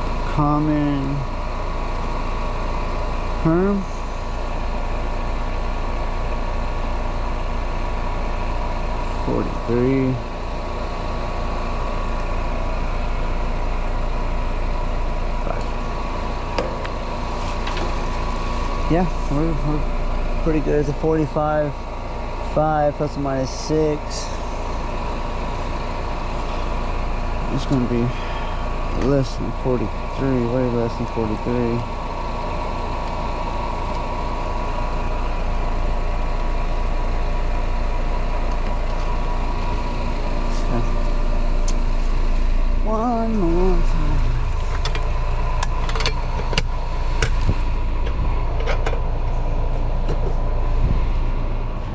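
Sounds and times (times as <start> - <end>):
low mechanical hum: 0.0 - 51.9.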